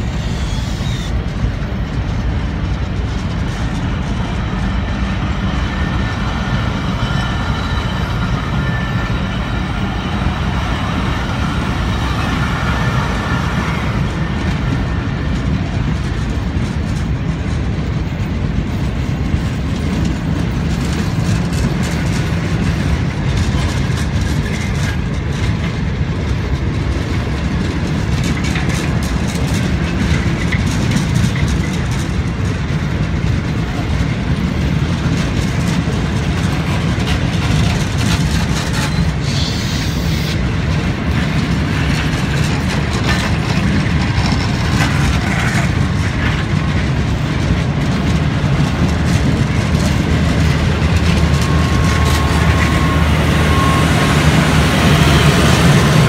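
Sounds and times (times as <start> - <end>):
rumble of train wheels on rail: 0.0 - 56.0
wheels clicking over rail joints: 0.0 - 56.0.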